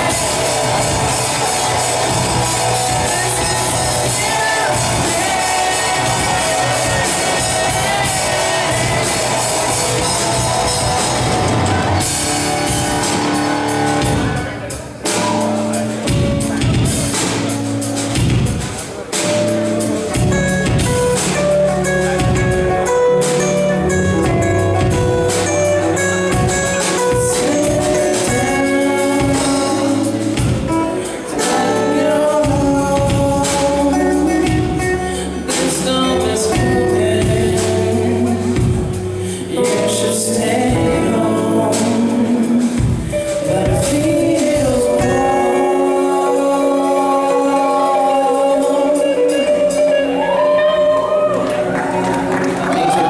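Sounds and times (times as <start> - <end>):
man singing lead: 0.0 - 12.2, 20.2 - 50.8
backing singers: 0.0 - 15.8, 23.4 - 53.0
drum kit: 0.0 - 53.0
electric guitar: 0.0 - 53.0.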